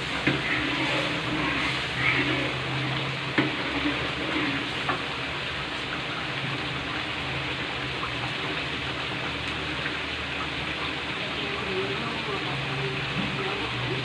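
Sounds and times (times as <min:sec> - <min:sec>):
chicken boiling in a wok: 0:00.0 - 0:14.0.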